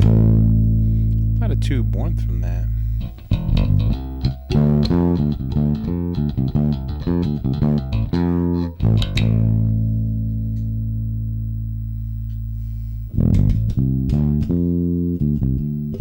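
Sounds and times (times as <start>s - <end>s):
electric bass plucked notes: 0.0s - 16.0s.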